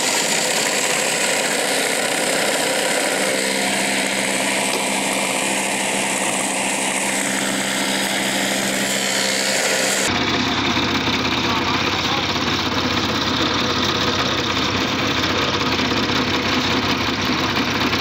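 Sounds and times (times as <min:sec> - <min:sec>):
tile making machinery running: 0:00.0 - 0:18.0.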